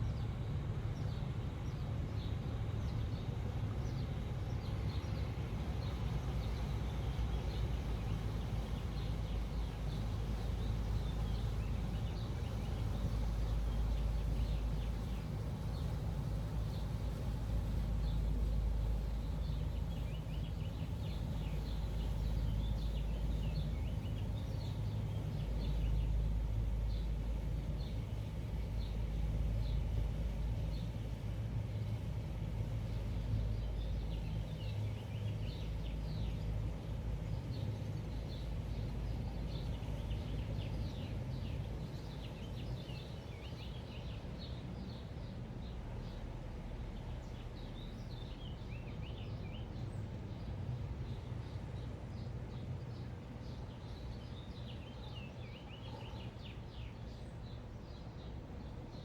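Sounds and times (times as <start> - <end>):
low rumble of traffic: 0.0 - 59.0
small birds chirping: 1.0 - 59.0.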